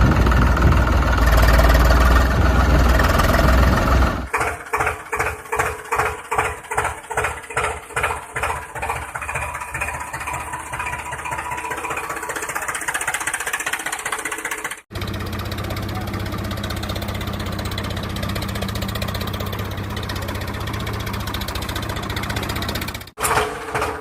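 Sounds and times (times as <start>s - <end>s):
tractor engine chugging: 0.0s - 24.0s.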